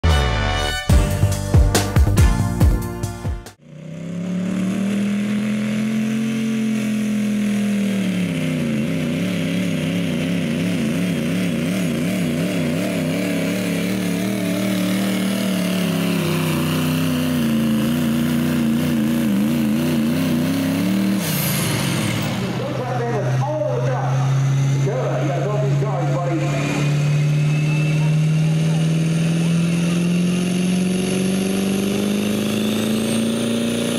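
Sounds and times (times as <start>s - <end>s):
diesel engine at full throttle: 3.1s - 33.9s.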